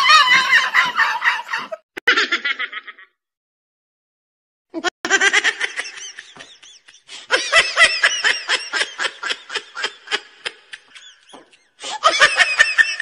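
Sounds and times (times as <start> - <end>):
person laughing: 0.0 - 3.1, 4.8 - 13.0.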